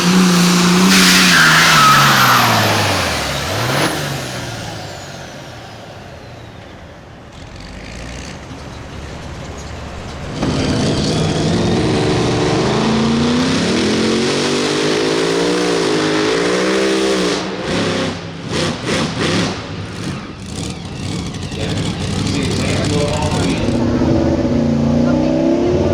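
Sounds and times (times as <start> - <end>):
vehicle engine revving high: 0.0 - 25.9.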